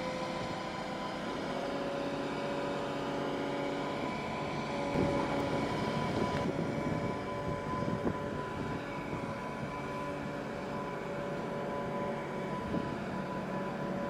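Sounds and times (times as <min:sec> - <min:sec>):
diesel engine drone: 0:00.0 - 0:14.0
steady high whine: 0:00.0 - 0:14.0.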